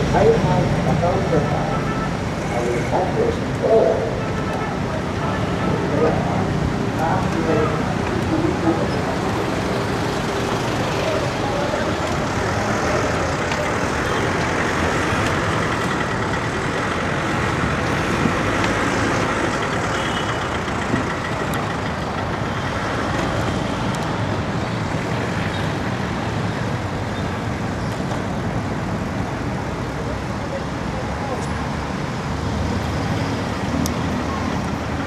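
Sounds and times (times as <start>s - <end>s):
passing road traffic: 0.0s - 35.0s.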